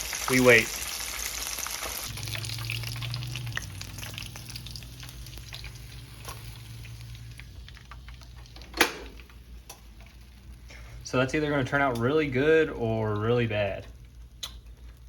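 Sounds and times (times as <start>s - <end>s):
food frying in hot grease: 0.0s - 15.0s.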